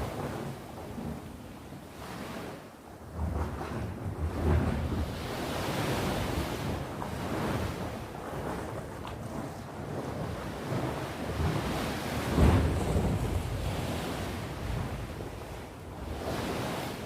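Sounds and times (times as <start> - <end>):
sea waves breaking: 0.0 - 17.0
wind rumbling on microphone: 0.0 - 17.0.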